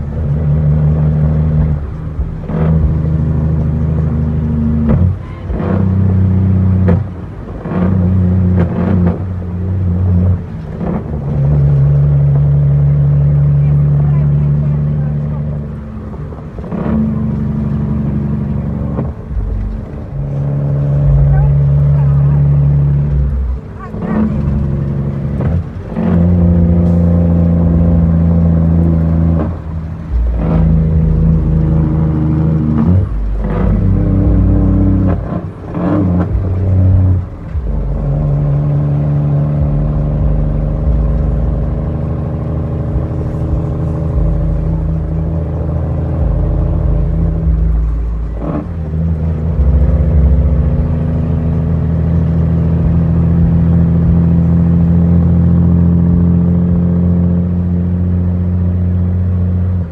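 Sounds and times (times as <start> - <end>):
diesel truck engine from inside cab: 0.0 - 59.9.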